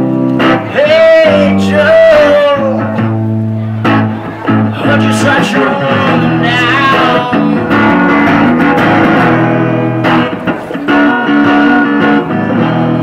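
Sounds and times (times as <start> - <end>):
bass guitar: 0.0 - 13.0
electric guitar: 0.0 - 13.0.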